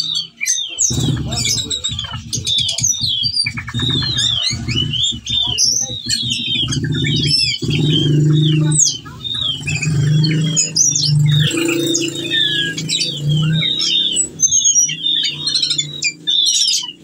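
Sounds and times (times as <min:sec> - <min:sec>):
whistling thrush singing: 0:00.0 - 0:17.0.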